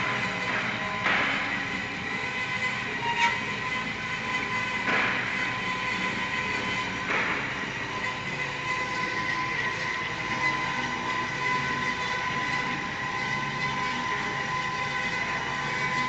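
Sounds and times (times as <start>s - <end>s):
band saw cutting steel: 0.0s - 16.0s.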